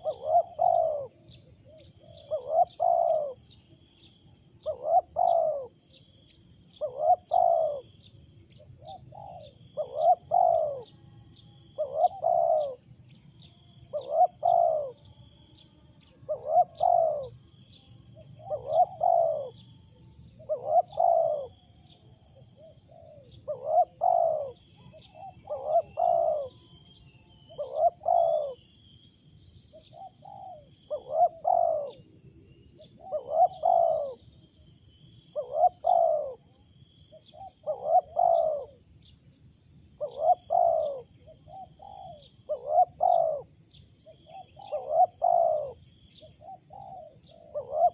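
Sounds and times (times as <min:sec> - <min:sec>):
dove cooing: 0:00.0 - 0:06.0, 0:06.7 - 0:11.0, 0:11.7 - 0:13.1, 0:13.8 - 0:15.1, 0:16.0 - 0:17.4, 0:18.2 - 0:28.8, 0:29.7 - 0:32.1, 0:32.8 - 0:34.4, 0:35.2 - 0:39.1, 0:39.9 - 0:47.9
high insect-like hum: 0:00.0 - 0:47.9
small birds chirping: 0:00.0 - 0:47.9.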